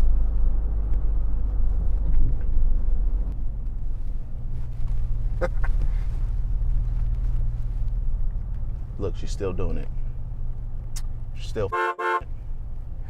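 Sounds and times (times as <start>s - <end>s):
truck rumbling in traffic: 0.0s - 13.0s.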